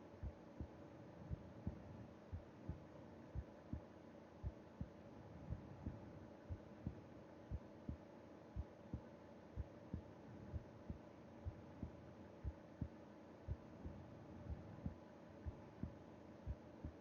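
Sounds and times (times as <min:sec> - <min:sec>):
faint steady hum: 0:00.0 - 0:17.0
heartbeat: 0:00.2 - 0:08.0, 0:08.6 - 0:17.0.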